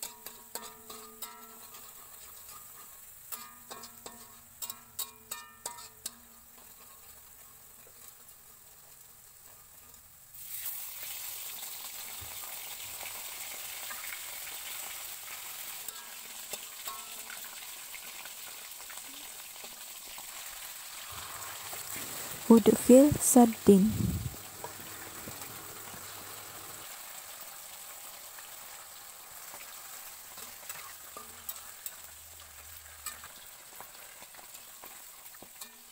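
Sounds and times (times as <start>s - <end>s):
spatula stirring in a wok: 0.0s - 23.6s, 24.2s - 35.9s
onion sizzling in hot oil: 0.0s - 35.9s.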